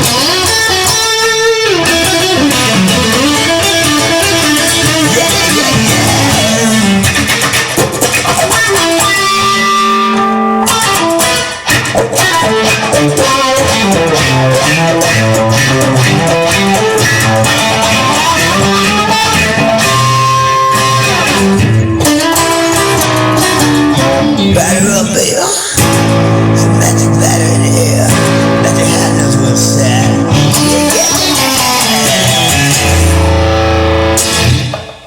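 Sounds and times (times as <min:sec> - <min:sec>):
drums with steady beat: 0:00.0 - 0:09.6, 0:10.9 - 0:24.7, 0:25.8 - 0:33.3
bass: 0:00.0 - 0:25.2, 0:25.8 - 0:34.8
electric guitar: 0:00.0 - 0:35.0.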